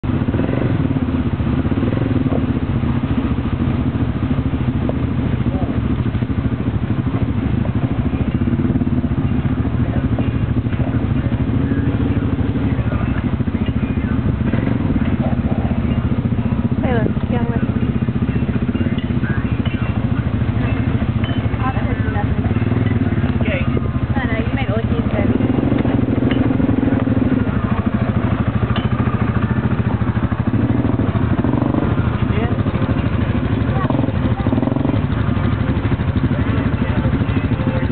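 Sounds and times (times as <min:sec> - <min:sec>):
utility vehicle engine running: 0:00.0 - 0:37.9.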